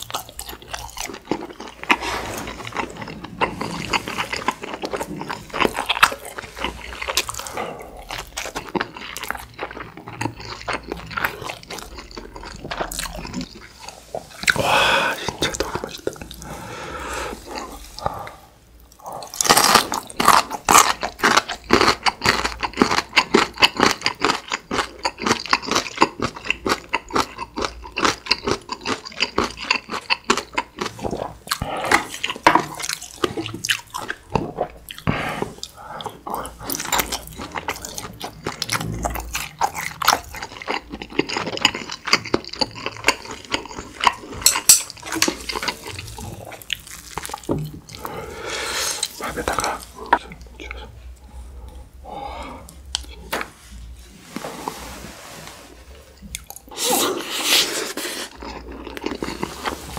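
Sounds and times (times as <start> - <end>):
crunching and chewing radish: 0.0 - 16.5, 17.3 - 52.0, 56.0 - 59.9.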